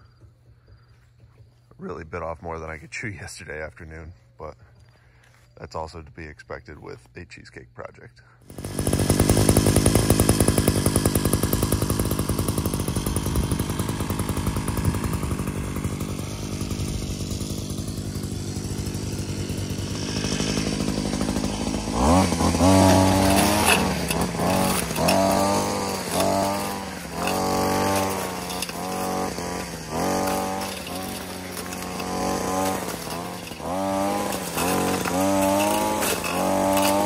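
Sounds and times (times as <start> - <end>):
brush cutter engine revving: 6.9 - 37.0.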